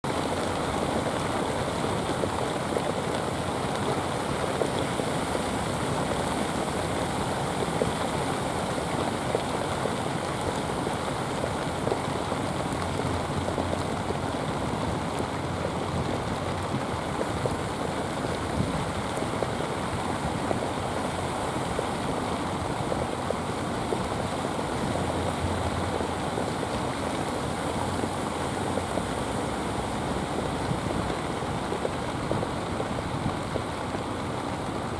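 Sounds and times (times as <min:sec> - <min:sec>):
rain falling on the sea: 0:00.0 - 0:34.9
surf washing at the shore: 0:00.1 - 0:34.9.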